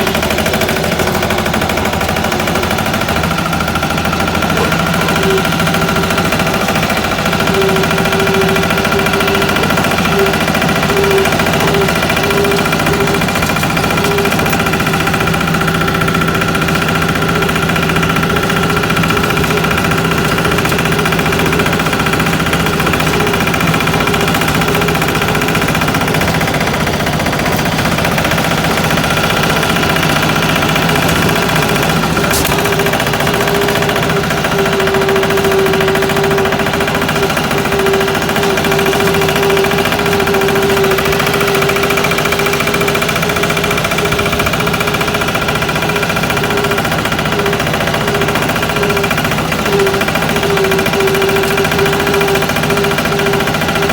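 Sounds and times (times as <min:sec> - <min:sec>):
single-cylinder diesel engine knocking: 0:00.0 - 0:53.9.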